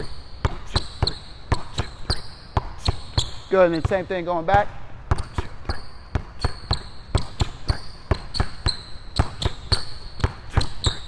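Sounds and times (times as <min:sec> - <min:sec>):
basketball dribbling on hardwood floor: 0:00.0 - 0:11.0.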